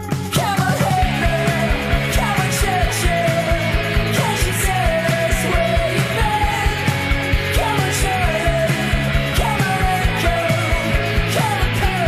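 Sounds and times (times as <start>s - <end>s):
rock music with fast drum beat: 0.0s - 12.0s.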